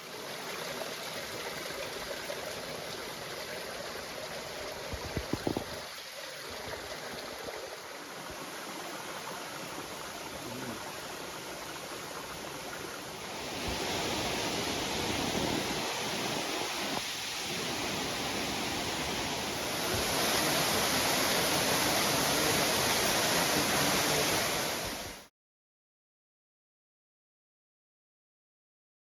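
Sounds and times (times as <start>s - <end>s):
waterfall rushing: 0.8s - 25.3s.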